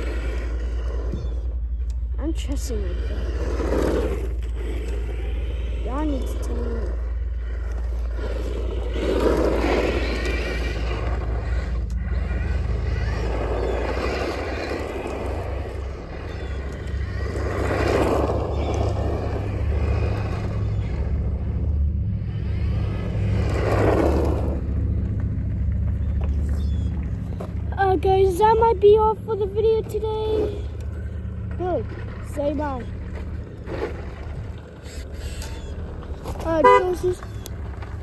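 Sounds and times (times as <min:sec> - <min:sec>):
rc car motor whine: 0:00.0 - 0:38.0
steady low hum: 0:00.0 - 0:38.0.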